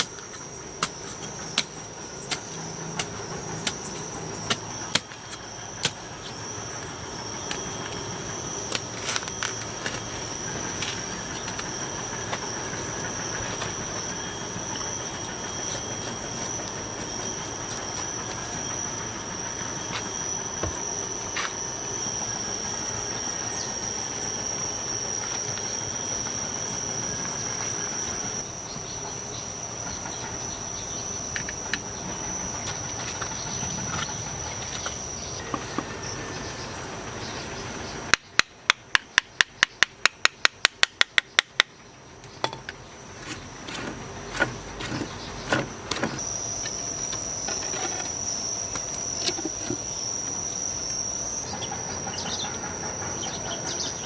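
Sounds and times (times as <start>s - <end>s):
high insect trill: 0.0s - 54.0s
outdoor background noise: 0.0s - 54.0s.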